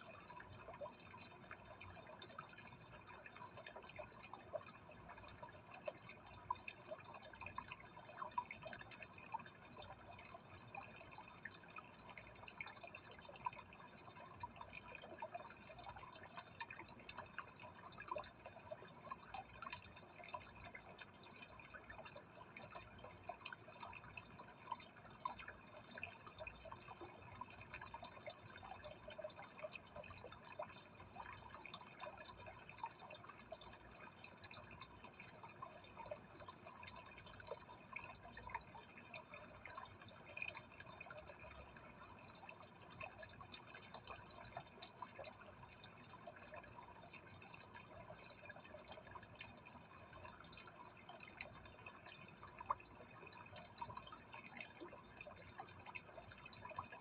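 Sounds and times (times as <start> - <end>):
aquarium water trickling: 0.0 - 57.0.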